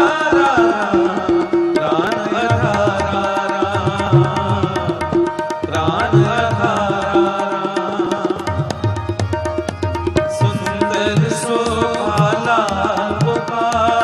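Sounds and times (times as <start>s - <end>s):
harmonium melody: 0.0s - 14.0s
tabla rhythm: 0.0s - 14.0s.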